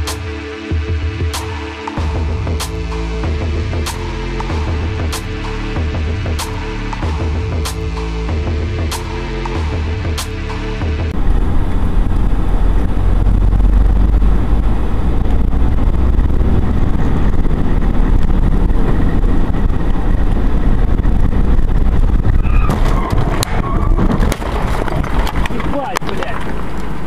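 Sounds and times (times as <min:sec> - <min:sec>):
moving car rumble: 0:00.0 - 0:27.0.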